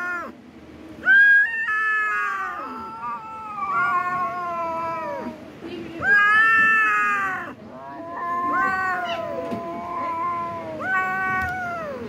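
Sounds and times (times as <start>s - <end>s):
cats yowling: 0.0s - 0.4s, 1.0s - 12.0s.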